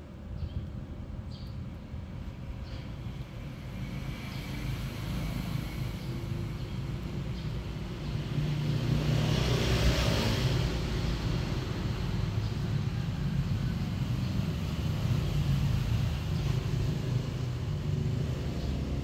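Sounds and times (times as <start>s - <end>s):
passing vehicle engine rumble: 2.5s - 19.0s.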